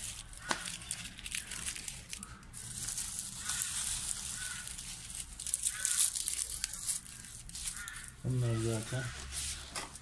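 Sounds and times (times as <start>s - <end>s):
onion skins crinkling: 0.0s - 10.0s
plastic bottle crackling: 0.0s - 10.0s.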